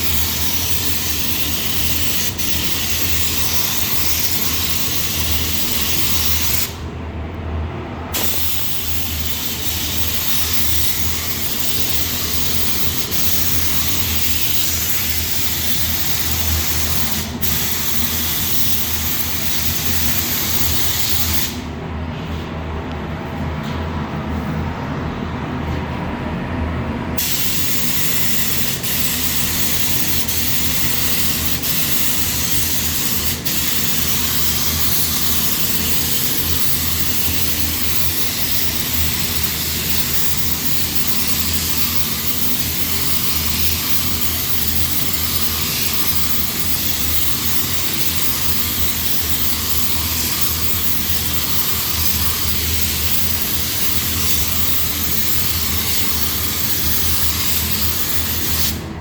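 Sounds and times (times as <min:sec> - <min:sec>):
spray gun hissing: 0:00.0 - 0:06.8, 0:08.1 - 0:21.6, 0:27.2 - 0:58.9.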